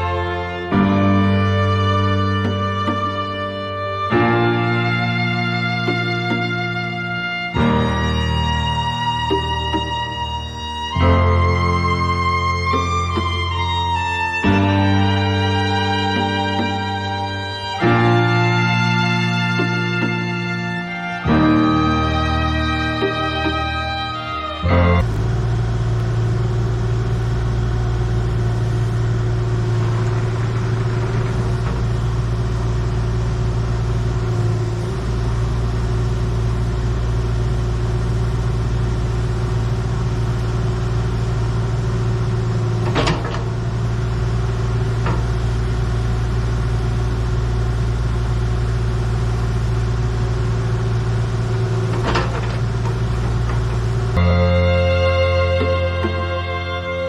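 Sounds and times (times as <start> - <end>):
heavy equipment engine running: 0.0 - 57.0.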